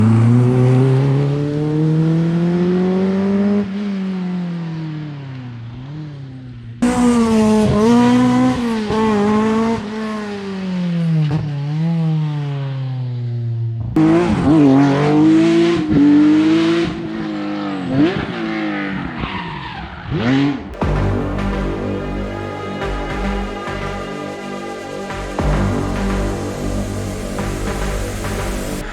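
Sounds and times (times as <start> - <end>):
rally car engines revving: 0.0 - 13.0, 13.9 - 28.9.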